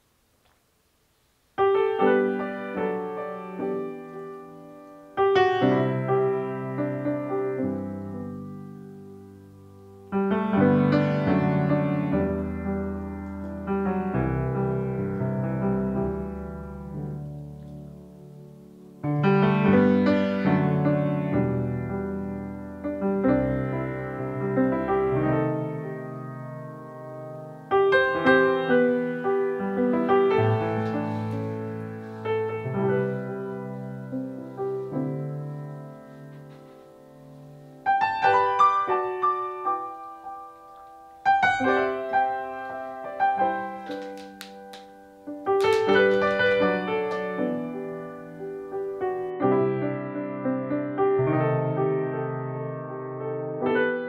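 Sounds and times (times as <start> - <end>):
piano music: 1.6 - 54.0.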